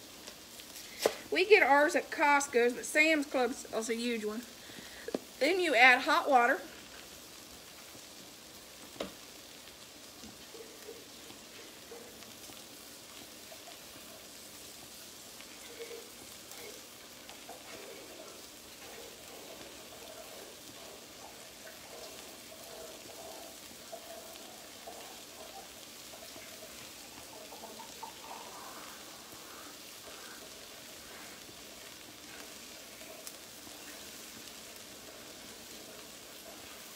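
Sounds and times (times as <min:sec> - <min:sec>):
bacon sizzling: 0:00.0 - 0:36.9.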